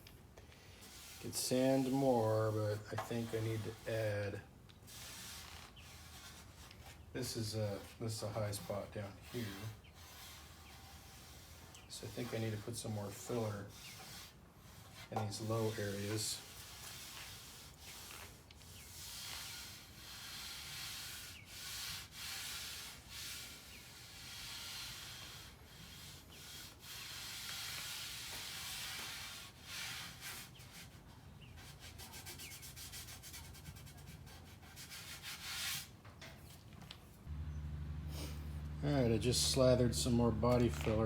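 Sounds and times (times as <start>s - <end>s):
sandpaper scraping by hand: 0.8s - 4.3s, 4.9s - 36.0s.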